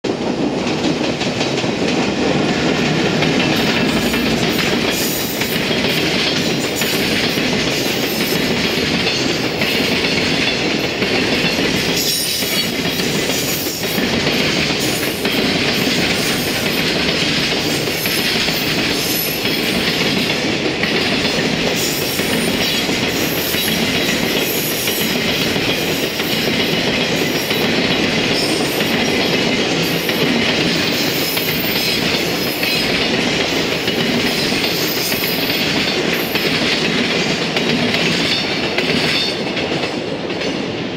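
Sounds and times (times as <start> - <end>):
steel wheels rumbling on rails: 0.0 - 40.9
wheels clacking over rail joints: 0.1 - 40.8.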